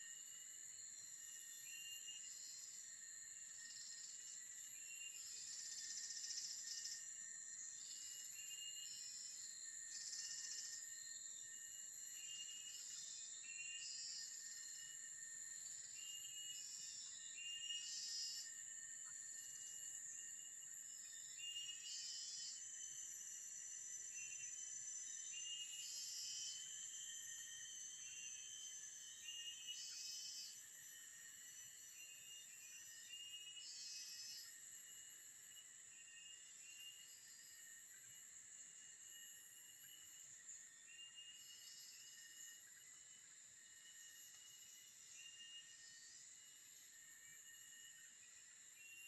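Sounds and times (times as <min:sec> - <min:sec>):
insect chirps: 0:00.0 - 0:49.0
insects droning: 0:00.0 - 0:49.0.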